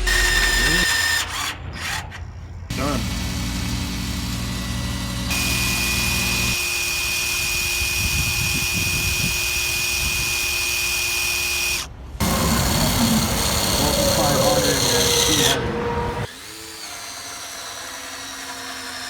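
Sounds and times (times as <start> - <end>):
torque wrench motor humming and whining: 0.0 - 19.0.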